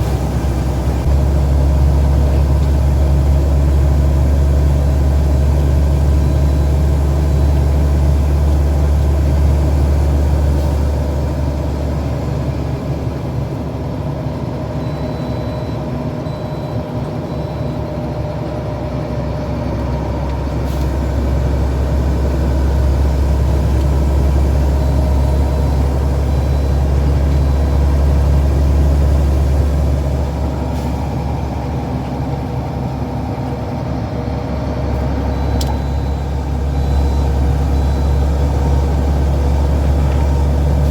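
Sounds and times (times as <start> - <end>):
truck engine humming: 0.0 - 16.3, 16.9 - 40.9.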